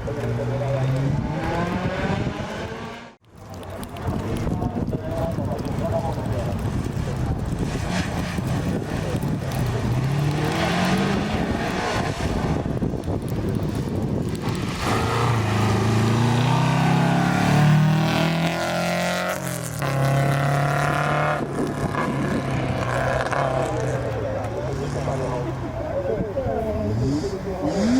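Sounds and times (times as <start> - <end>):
rally car engine revving: 0.0 - 3.2, 5.6 - 27.9.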